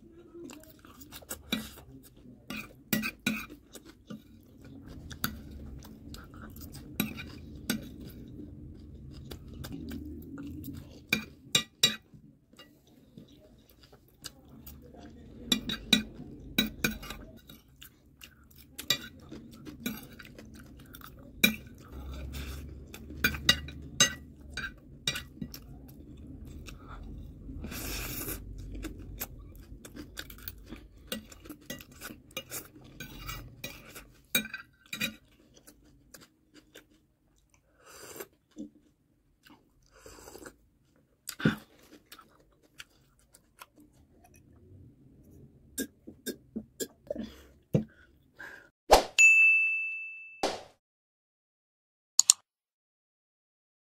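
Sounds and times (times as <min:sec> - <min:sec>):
close chewing: 0:00.0 - 0:11.5, 0:12.5 - 0:48.1.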